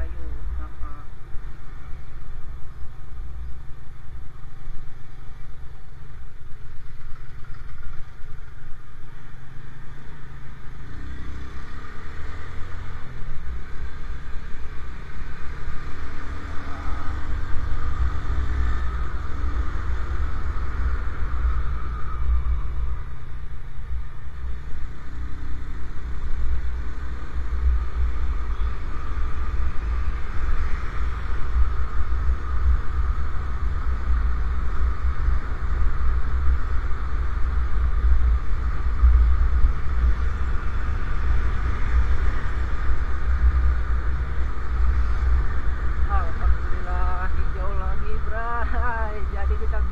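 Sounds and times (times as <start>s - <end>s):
wind rumbling on microphone: 0.0s - 49.9s.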